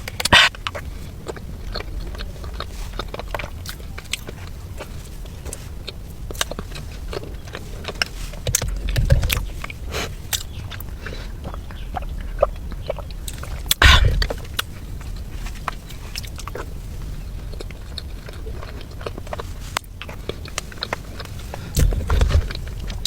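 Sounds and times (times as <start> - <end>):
chewing mouth clicks and smacks: 0.0 - 23.0
steady low hum: 0.0 - 23.0.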